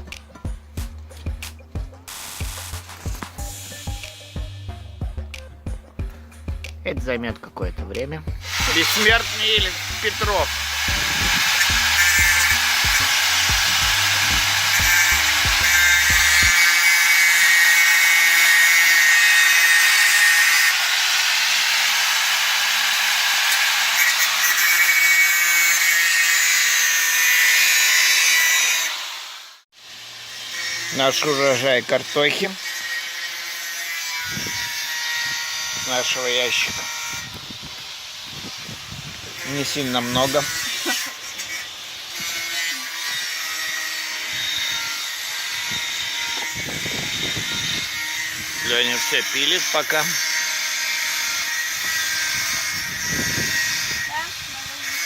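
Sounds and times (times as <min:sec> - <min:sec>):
power tool cutting metal: 0:01.4 - 0:04.5, 0:08.4 - 0:55.0.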